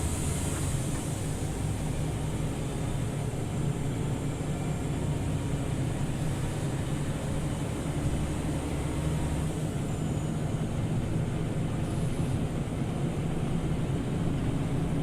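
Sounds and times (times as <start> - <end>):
bus engine drone: 0.0 - 15.0
road rumble: 0.0 - 15.0.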